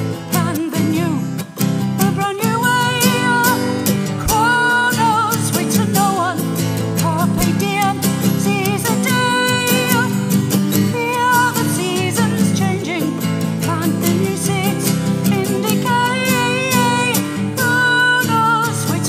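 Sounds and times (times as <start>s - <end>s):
strummed acoustic guitar: 0.0s - 19.0s
woman singing: 0.0s - 19.0s.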